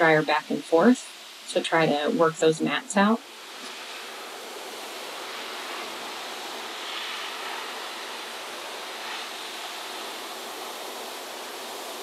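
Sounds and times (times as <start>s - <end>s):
grooming dryer blowing air: 0.0s - 12.0s.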